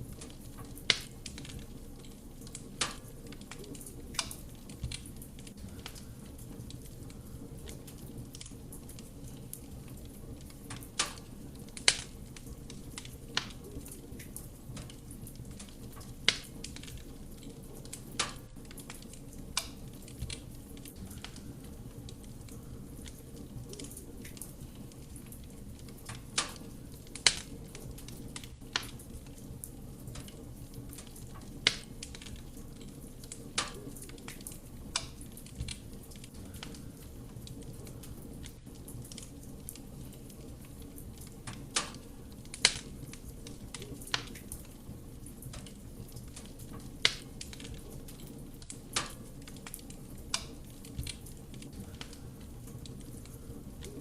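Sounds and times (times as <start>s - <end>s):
fire roaring: 0.0s - 54.0s
wood crackling and popping: 0.0s - 54.0s.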